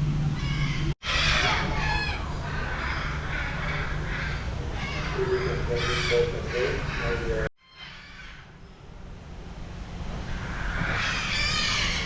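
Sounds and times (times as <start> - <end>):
steady low hum: 0.0 - 12.0
harsh bird calls: 0.4 - 8.6, 10.2 - 12.0.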